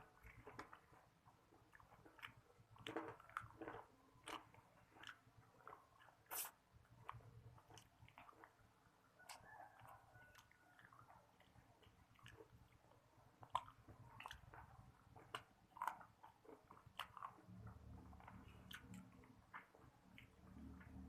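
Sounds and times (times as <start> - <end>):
chewing crispy chicken crunches: 0.0 - 21.0.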